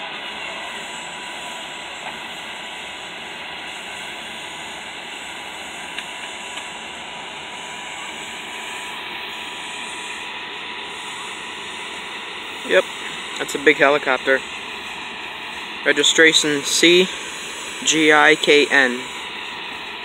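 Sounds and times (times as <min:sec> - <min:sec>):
helicopter turbine whine: 0:00.0 - 0:20.0
rotor rushing hiss: 0:00.0 - 0:20.0.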